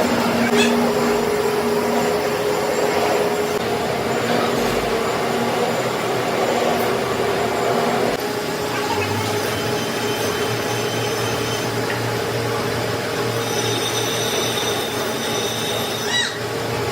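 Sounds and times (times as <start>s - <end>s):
workshop machinery whirring: 0.0s - 16.9s.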